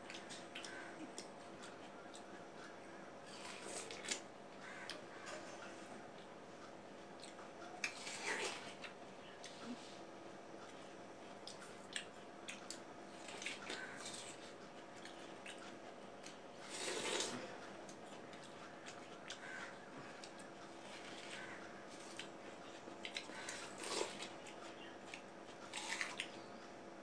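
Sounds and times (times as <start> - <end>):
faint steady hum: 0.0 - 27.0
people chewing watermelon: 0.0 - 27.0.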